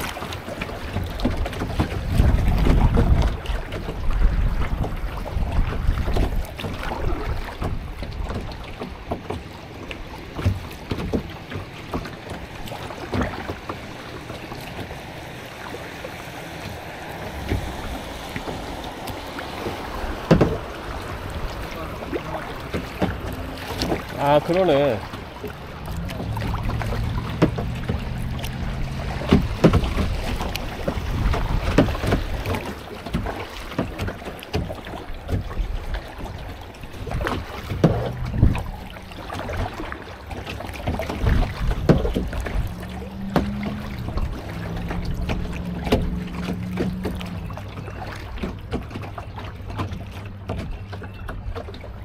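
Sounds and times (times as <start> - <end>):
small knocks on kayak: 0.0 - 15.0, 16.6 - 20.7, 22.1 - 36.4, 37.0 - 51.8
water splashes: 0.0 - 52.0
wind rumble on microphone: 0.0 - 52.0.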